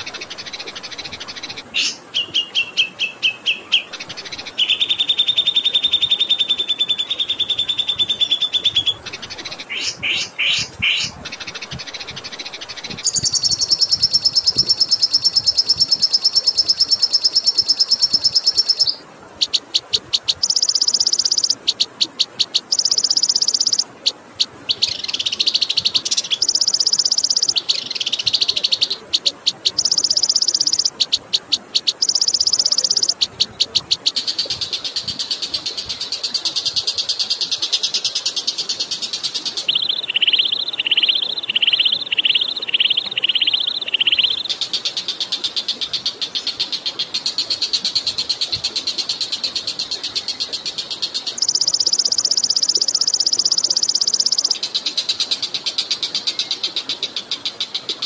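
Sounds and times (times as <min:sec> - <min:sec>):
songbird trills and rattles: 0:00.0 - 0:58.0.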